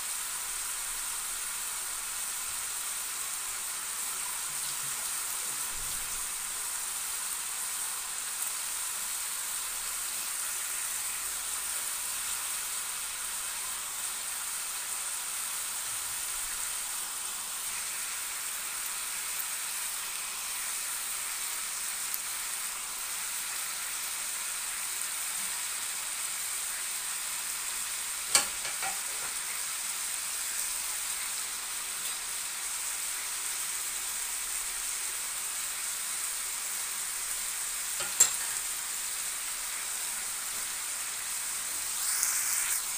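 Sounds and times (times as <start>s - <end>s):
food sizzling in a pan: 0.0s - 42.9s.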